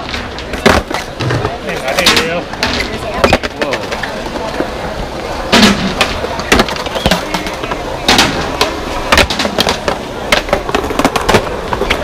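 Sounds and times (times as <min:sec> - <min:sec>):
skateboard pops and landings: 0:00.0 - 0:04.7, 0:05.4 - 0:12.0
skateboards rolling rumble: 0:00.0 - 0:12.0.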